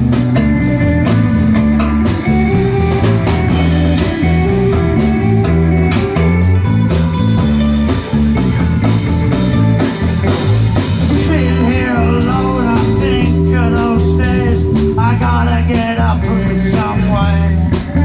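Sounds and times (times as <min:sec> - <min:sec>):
bass guitar: 0:00.0 - 0:18.0
drum kit with percussion: 0:00.0 - 0:18.0
electric guitar: 0:00.0 - 0:18.0.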